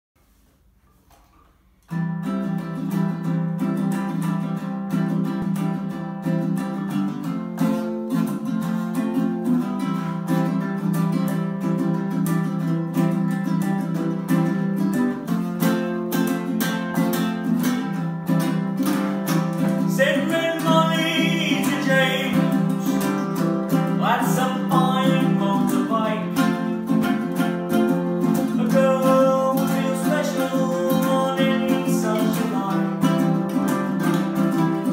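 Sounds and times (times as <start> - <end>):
ukuleles strummed and picked: 1.9 - 34.9.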